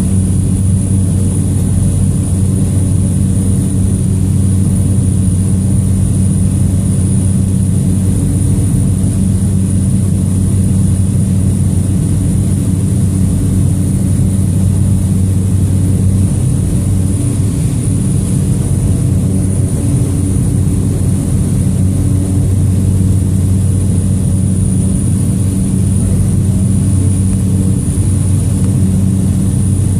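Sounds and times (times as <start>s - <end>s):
high turbine whine: 0.0s - 29.9s
propeller hum: 0.0s - 29.9s.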